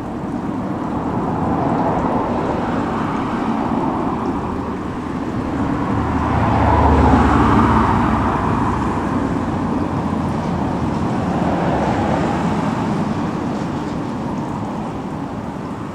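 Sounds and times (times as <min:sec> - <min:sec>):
road traffic noise: 0:00.0 - 0:15.9
vehicle engine rumble: 0:00.0 - 0:15.9.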